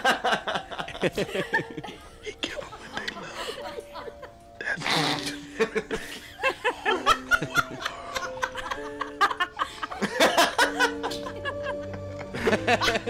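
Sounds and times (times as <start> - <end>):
laugh track laughter: 0.0 - 13.0.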